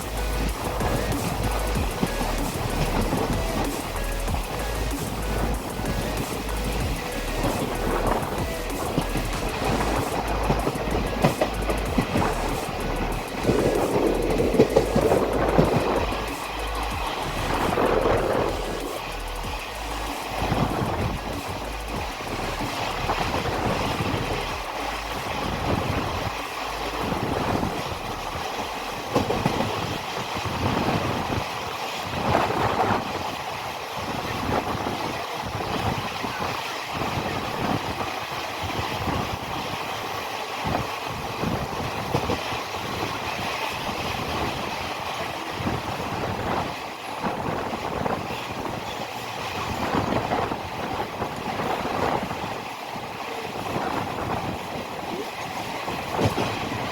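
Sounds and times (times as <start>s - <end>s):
train rumbling: 0.0s - 56.9s
wheels clattering over rails: 0.0s - 56.9s.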